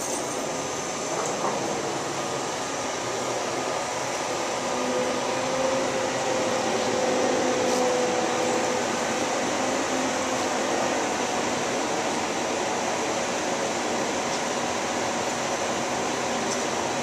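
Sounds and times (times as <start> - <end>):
crane engine running under load: 0.0 - 17.0.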